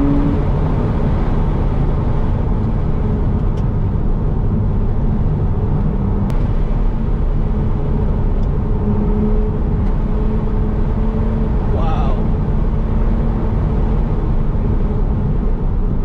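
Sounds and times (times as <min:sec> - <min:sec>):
low engine hum: 0:00.0 - 0:16.0
tyre and road noise: 0:00.0 - 0:16.0.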